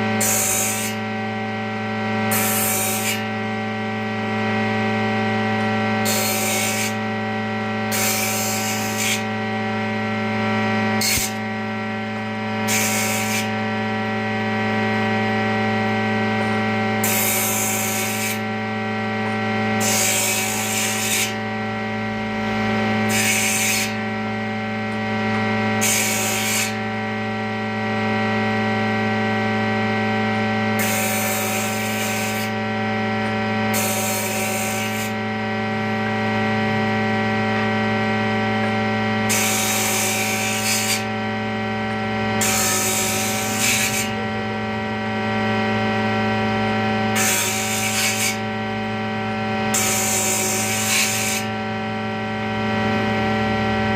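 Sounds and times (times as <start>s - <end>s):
electric power tool motor humming: 0.0s - 53.9s.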